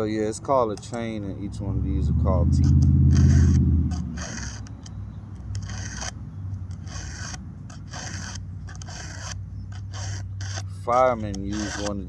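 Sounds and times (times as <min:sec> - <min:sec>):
file scraping chainsaw chain: 0:00.0 - 0:12.0
low steady hum: 0:00.0 - 0:12.0.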